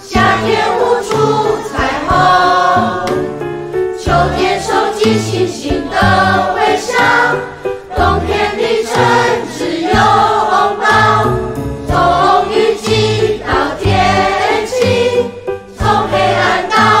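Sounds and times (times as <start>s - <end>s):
pop song with voices singing: 0.0s - 17.0s.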